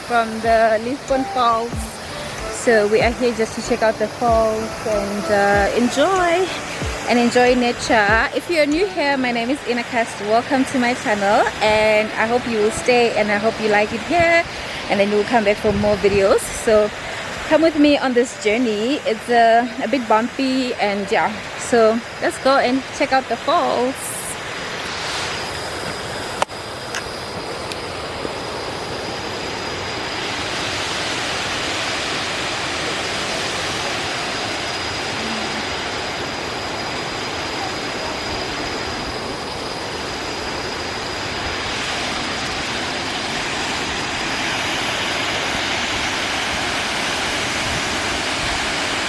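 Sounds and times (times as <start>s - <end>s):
faint high whine: 0.0s - 49.0s
waterfall rushing: 0.0s - 49.0s.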